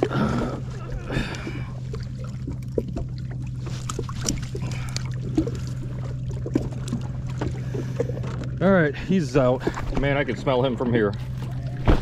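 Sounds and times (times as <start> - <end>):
jet ski engine idling: 0.0 - 12.0.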